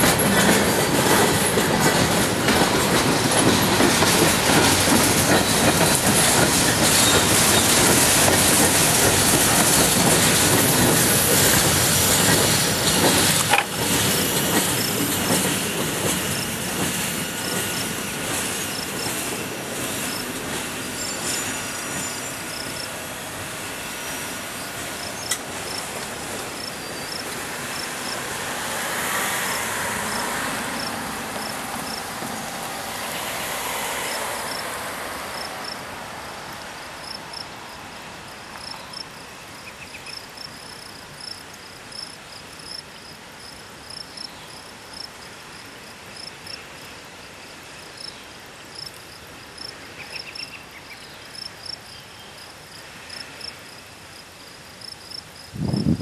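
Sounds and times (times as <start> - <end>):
freight train wheels on rails: 0.0 - 56.0
insects chirping: 0.3 - 56.0.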